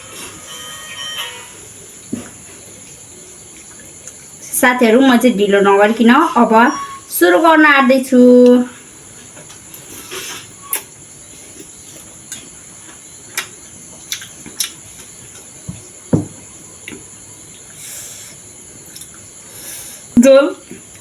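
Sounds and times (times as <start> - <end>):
faint high-pitched hiss: 0.0 - 21.0.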